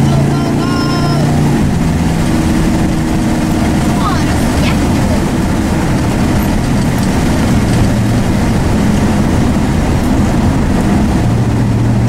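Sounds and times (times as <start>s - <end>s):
car engine hum from inside: 0.0s - 12.0s.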